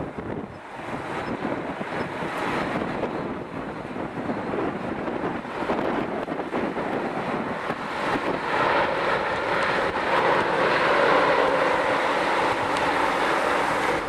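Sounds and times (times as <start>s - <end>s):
jet engines: 0.0s - 14.0s
wind buffeting microphone: 0.0s - 14.0s.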